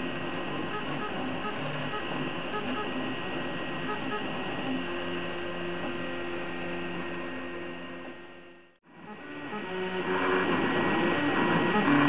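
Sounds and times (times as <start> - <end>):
cooling fans hissing: 0.0 - 12.0
stepper motors whining tones: 0.0 - 12.0.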